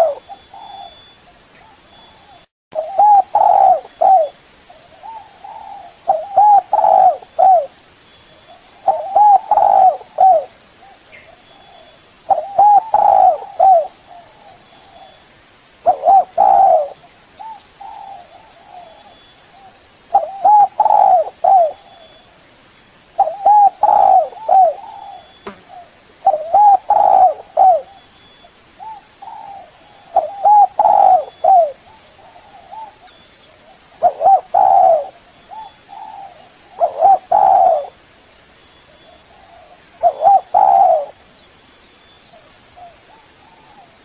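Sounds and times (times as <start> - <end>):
dove cooing: 0.0 - 7.8, 8.5 - 15.2, 15.8 - 22.2, 23.2 - 28.1, 28.8 - 38.0, 38.9 - 41.2, 42.4 - 44.0.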